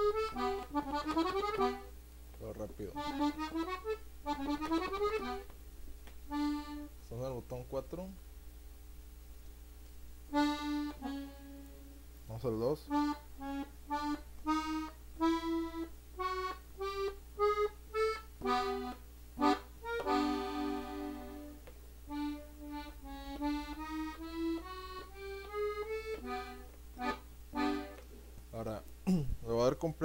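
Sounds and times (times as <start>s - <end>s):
button accordion notes: 0.0s - 5.6s, 6.3s - 7.8s, 10.3s - 28.1s.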